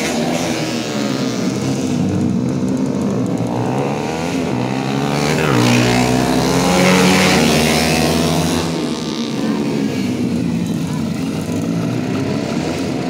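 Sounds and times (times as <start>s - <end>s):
racing motorcycles revving: 0.0s - 13.0s.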